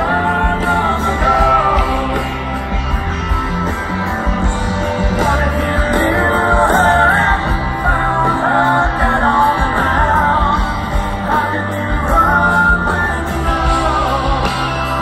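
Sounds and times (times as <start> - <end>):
person singing: 0.0 - 3.1, 4.8 - 15.0
drums: 0.0 - 15.0
electric guitars: 0.0 - 15.0.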